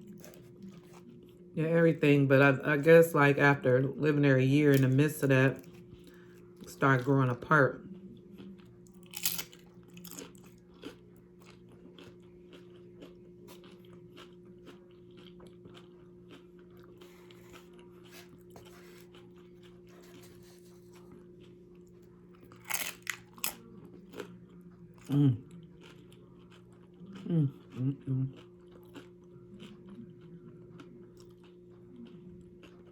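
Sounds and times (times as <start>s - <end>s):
chewing and crunching chips: 0.0s - 1.6s, 4.4s - 32.9s
faint steady hum: 0.0s - 32.9s.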